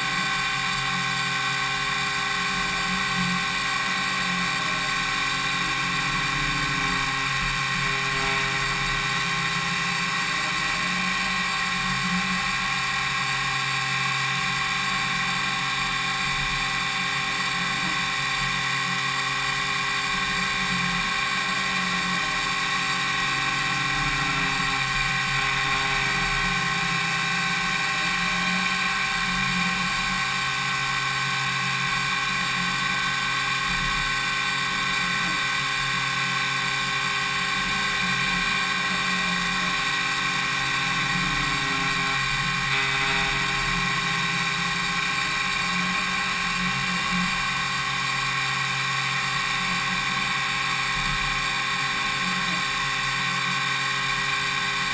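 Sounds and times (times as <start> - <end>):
high-pitched milling machine whine: 0.0 - 54.9.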